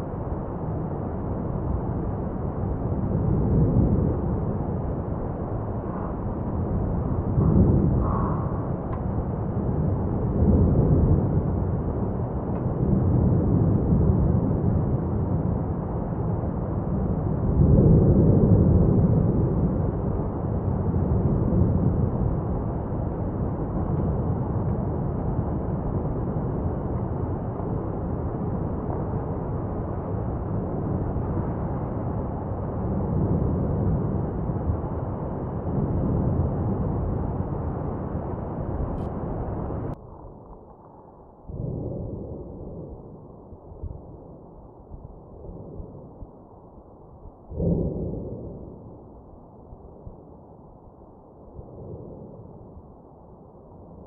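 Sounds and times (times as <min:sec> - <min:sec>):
volcano deep rumble: 0:00.0 - 0:54.0.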